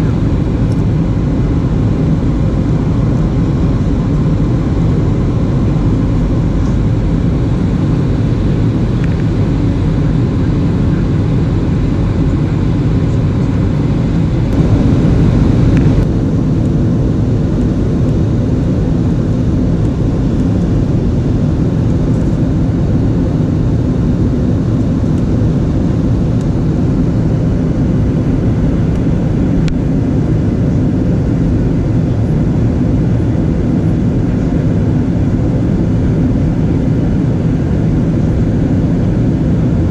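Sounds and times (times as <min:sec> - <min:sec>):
aircraft engines rumbling: 0:00.0 - 0:39.9
airflow over fuselage: 0:00.0 - 0:39.9.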